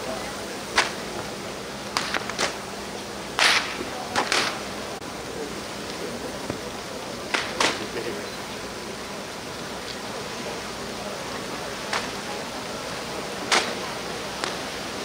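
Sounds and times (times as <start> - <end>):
bonfire rushing: 0.0 - 15.0.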